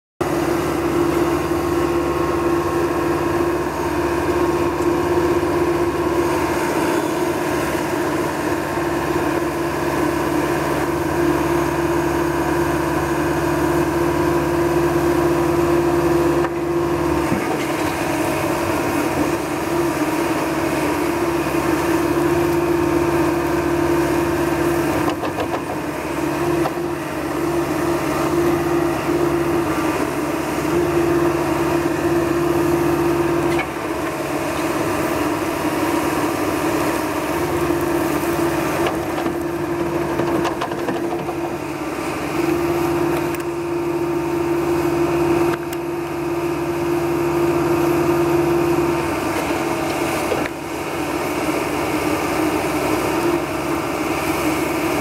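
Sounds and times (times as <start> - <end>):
diesel engine running: 0.2 - 55.0.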